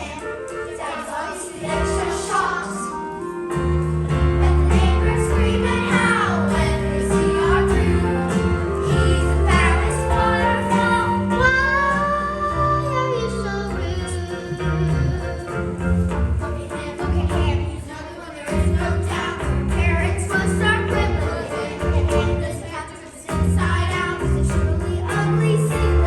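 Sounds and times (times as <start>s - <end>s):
children singing: 0.0s - 26.0s
instrumental accompaniment: 0.0s - 26.0s.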